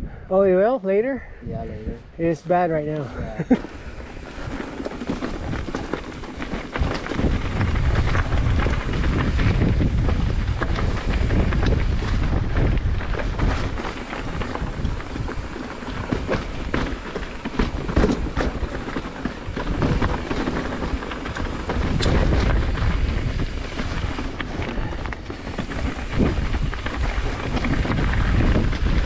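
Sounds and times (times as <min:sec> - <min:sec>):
wind buffeting microphone: 0:01.2 - 0:02.4, 0:03.1 - 0:29.0.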